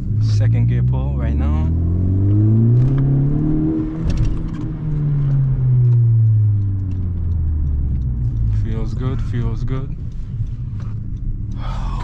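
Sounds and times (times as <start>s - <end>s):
turbocharged car engine at full throttle: 0.0s - 12.0s.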